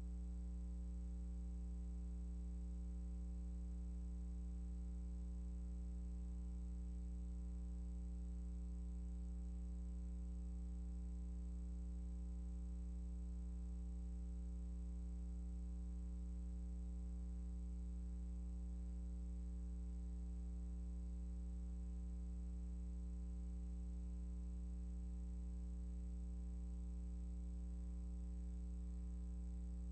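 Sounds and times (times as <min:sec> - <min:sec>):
faint high whine: 0:00.0 - 0:29.9
low electrical hum: 0:00.0 - 0:29.9.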